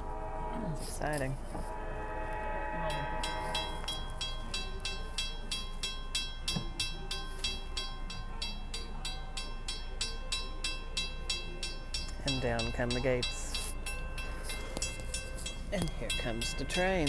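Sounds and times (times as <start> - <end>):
railroad crossing bell ringing: 0.0 - 17.0.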